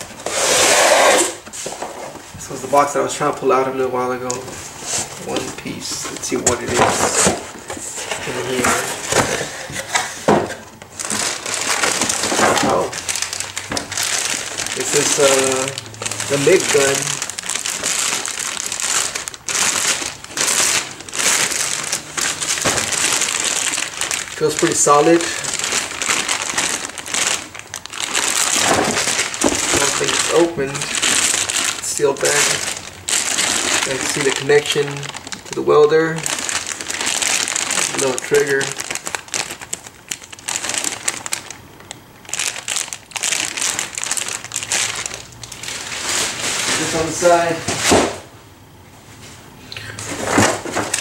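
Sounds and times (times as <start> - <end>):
plastic bag crinkling: 0.0 - 48.1, 50.0 - 51.0.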